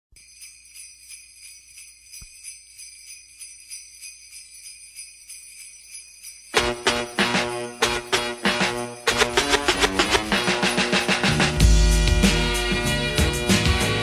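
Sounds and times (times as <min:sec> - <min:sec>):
sleigh bells shaken: 0:00.2 - 0:14.0.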